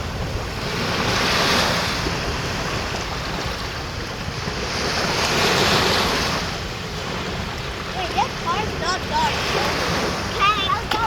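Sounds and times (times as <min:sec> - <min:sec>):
waves breaking on a beach: 0:00.0 - 0:11.0
wind rumbling on microphone: 0:00.0 - 0:11.0.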